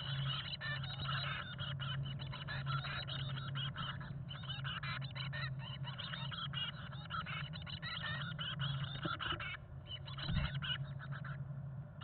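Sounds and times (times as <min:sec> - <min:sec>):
nestlings begging calls: 0:00.0 - 0:11.4
steady low hum: 0:00.0 - 0:12.0.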